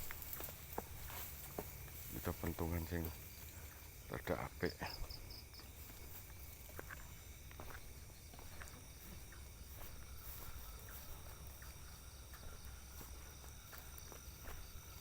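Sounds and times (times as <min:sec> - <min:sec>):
footsteps rustling through field: 0:00.0 - 0:15.0
insects chirring: 0:00.0 - 0:15.0.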